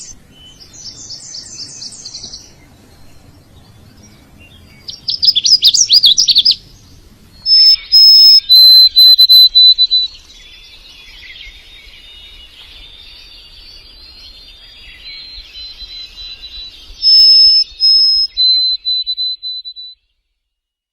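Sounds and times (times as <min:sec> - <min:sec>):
songbird whistled notes and trills: 0:00.0 - 0:02.6, 0:04.0 - 0:06.6, 0:07.3 - 0:20.1
soft bird twittering: 0:00.0 - 0:20.1.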